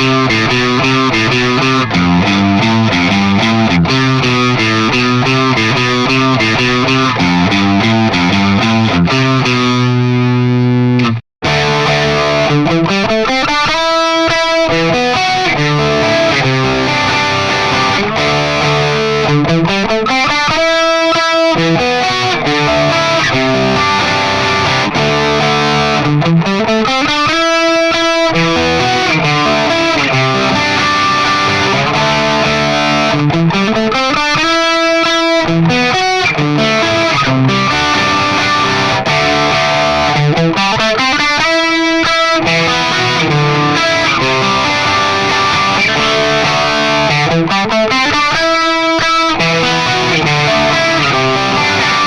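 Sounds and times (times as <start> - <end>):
distorted electric guitar: 0.0 - 52.0.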